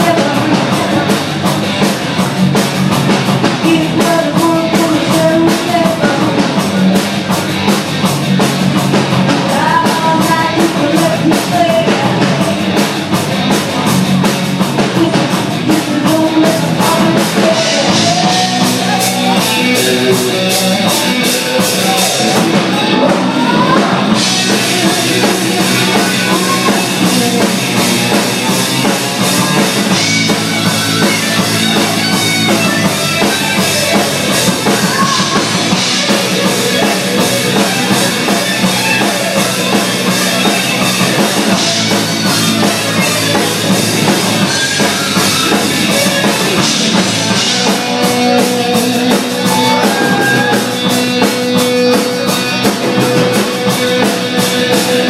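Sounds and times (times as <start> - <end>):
drum kit beat with cymbals: 0.0 - 55.0
electric guitars: 0.0 - 55.0.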